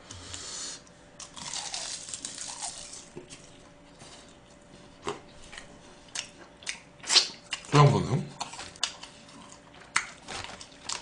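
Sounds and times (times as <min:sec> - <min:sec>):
man chewing with wet mouth noises: 0:00.3 - 0:11.0.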